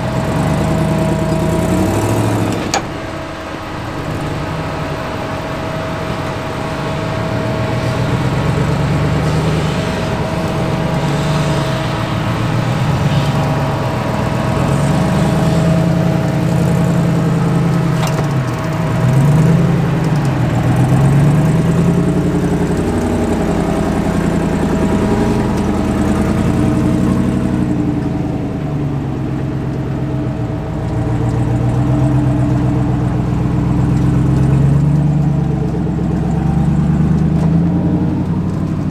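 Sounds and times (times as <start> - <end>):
engine revving: 0.0 - 38.9
steady high whine: 0.0 - 38.9.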